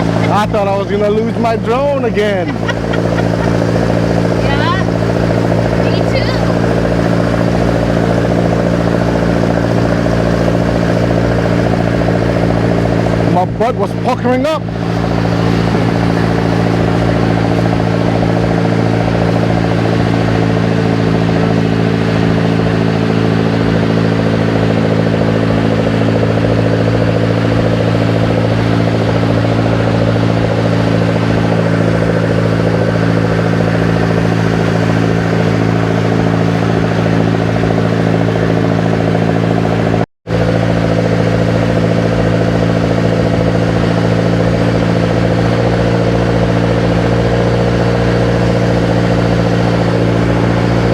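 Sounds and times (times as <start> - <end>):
boat engine drone: 0.0 - 50.9.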